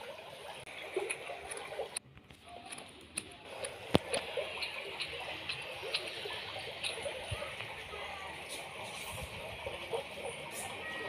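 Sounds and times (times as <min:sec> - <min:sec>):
aquarium water bubbling: 0:00.0 - 0:11.0.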